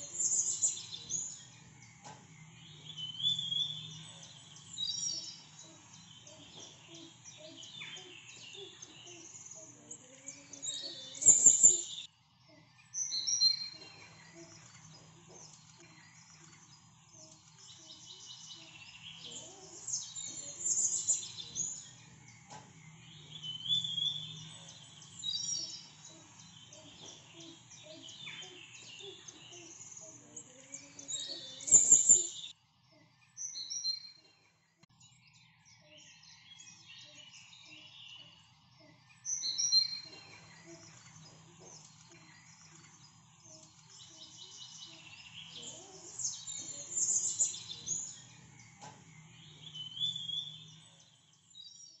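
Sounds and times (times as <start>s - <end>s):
faint low hum: 0.0s - 51.9s
small birds chirping: 0.0s - 52.0s.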